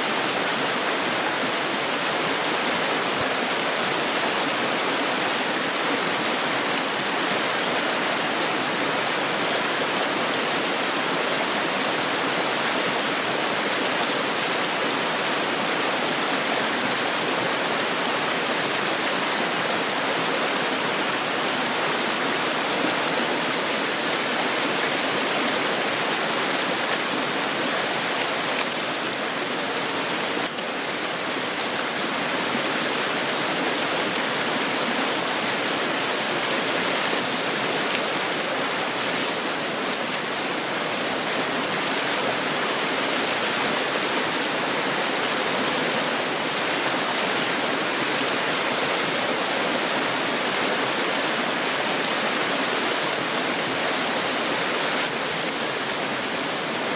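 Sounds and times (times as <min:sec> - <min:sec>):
river water rushing over rocks: 0:00.0 - 0:56.9.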